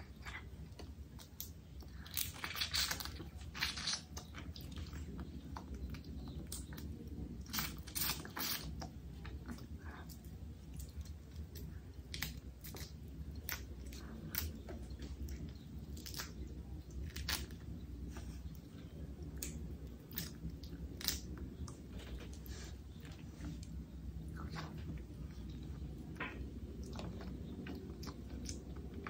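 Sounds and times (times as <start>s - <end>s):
person chewing food: 0.0s - 29.0s
steady low hum: 0.0s - 29.0s.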